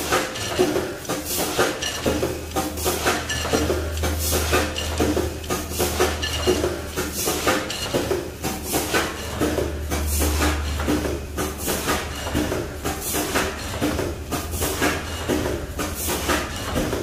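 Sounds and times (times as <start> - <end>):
machine clattering and rattling: 0.0 - 17.0.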